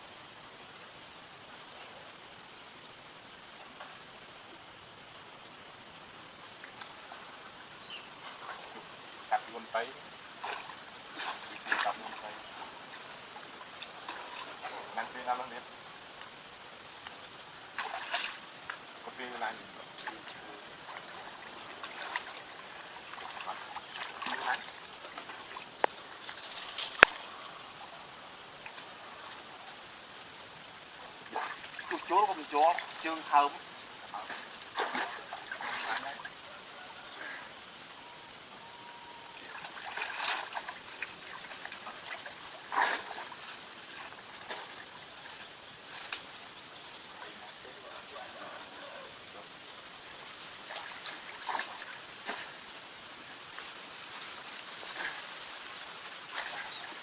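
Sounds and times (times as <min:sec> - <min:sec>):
water trickling and splashing: 0:01.4 - 0:57.0.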